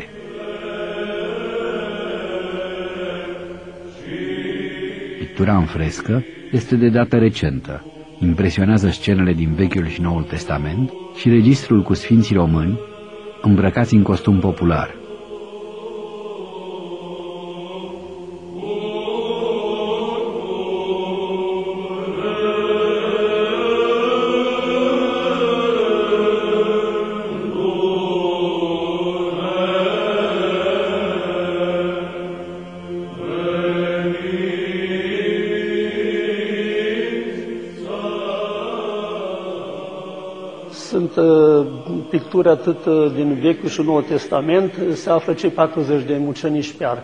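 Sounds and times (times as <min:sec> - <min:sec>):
voices chanting slow melody: 0:00.0 - 0:47.0.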